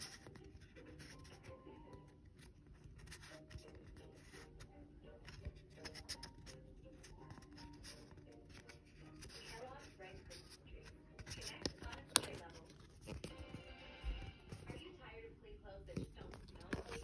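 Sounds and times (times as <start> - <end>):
fingertip rubbing plastic: 0.0 - 14.9, 15.9 - 17.0
faint music: 0.0 - 17.0.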